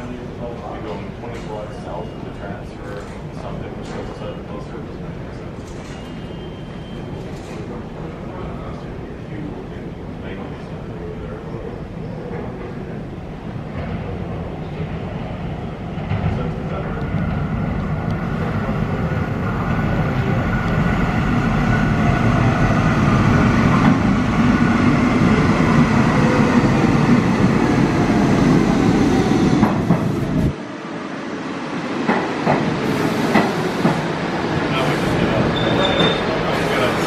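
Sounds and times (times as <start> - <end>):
subway train wheels rumbling: 0.0 - 37.0.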